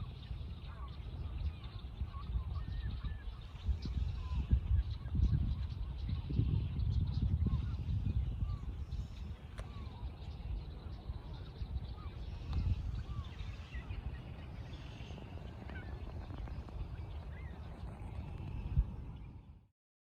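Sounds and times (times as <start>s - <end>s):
birds chirping: 0.0s - 19.7s
steady low rumble: 0.0s - 19.7s.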